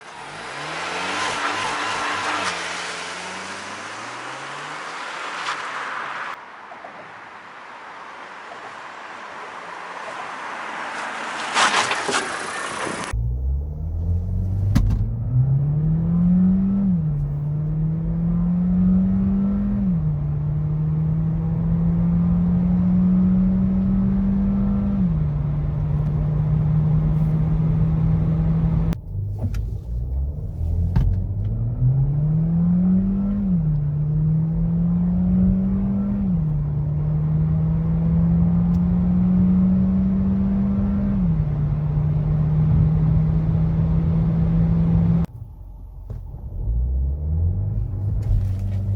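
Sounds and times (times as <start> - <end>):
car engine accelerating hard: 0.0 - 6.4, 7.5 - 45.3, 46.3 - 48.9.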